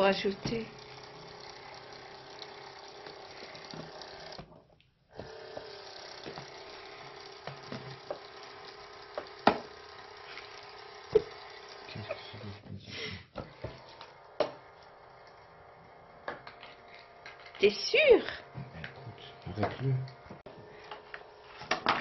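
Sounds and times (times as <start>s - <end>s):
toy pump humming: 0.0s - 4.5s, 5.1s - 12.7s, 13.4s - 22.0s.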